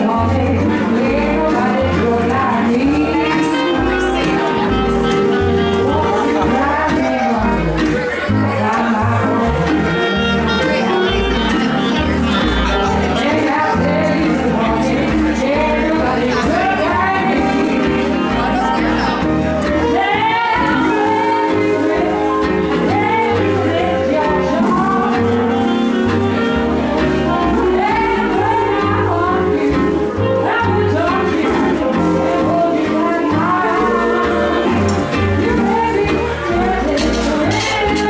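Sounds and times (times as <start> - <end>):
country band playing live: 0.0 - 38.0
guitar chords: 0.0 - 38.0
lead guitar bending notes: 0.0 - 38.0
rhythmic bass line: 0.0 - 38.0.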